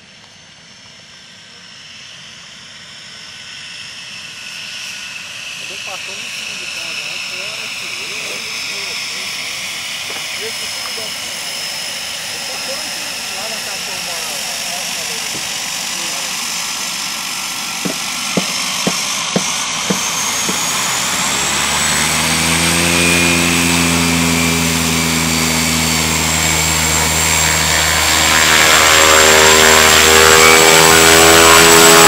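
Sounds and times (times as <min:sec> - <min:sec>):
propeller drone: 0:00.0 - 0:32.0
turbine engine whine: 0:00.0 - 0:32.0.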